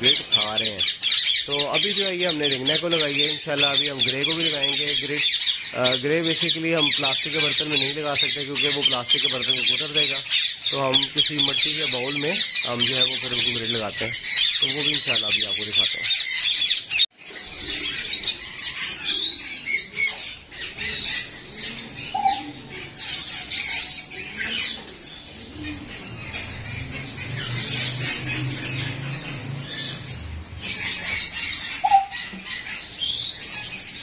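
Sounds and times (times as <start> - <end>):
parakeets squawking and chattering: 0.0 - 34.0.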